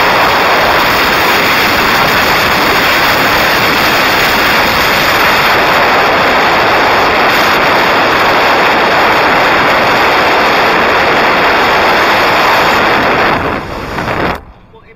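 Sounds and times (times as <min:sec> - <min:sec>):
wind rushing over microphone: 0:00.0 - 0:14.9.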